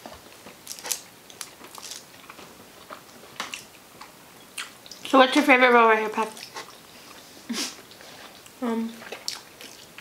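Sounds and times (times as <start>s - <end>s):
people chewing food: 0.0s - 5.2s, 6.1s - 10.0s.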